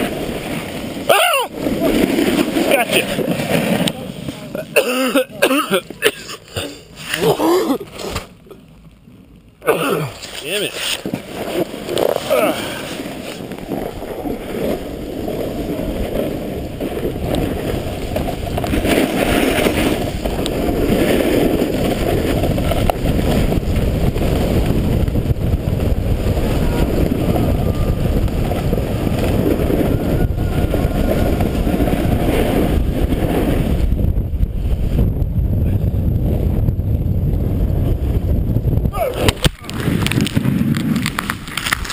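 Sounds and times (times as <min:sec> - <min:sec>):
snowboard scraping packed snow: 0:00.0 - 0:08.4, 0:10.0 - 0:36.7, 0:37.3 - 0:41.9
wind rumbling on microphone: 0:00.0 - 0:41.9.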